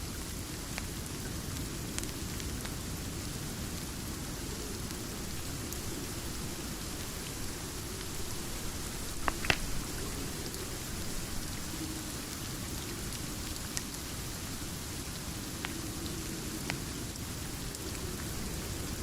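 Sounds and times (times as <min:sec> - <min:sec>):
rain falling: 0:00.0 - 0:19.0
wood fire crackles: 0:00.0 - 0:19.0.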